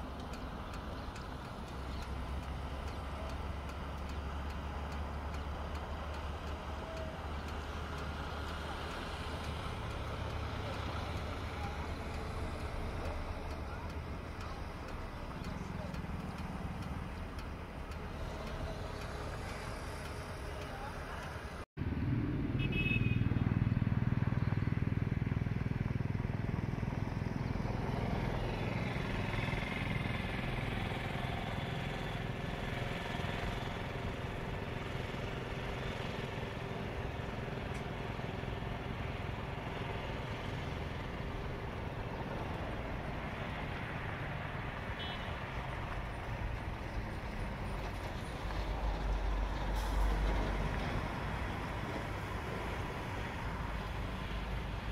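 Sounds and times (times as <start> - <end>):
highway traffic hum: 0.0 - 54.9.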